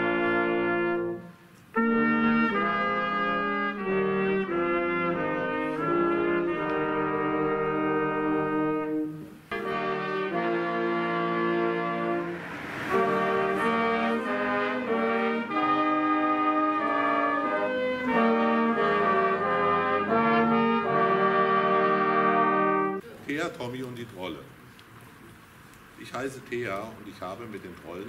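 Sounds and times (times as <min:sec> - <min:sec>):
brass choir playing a carol: 0:00.0 - 0:23.0.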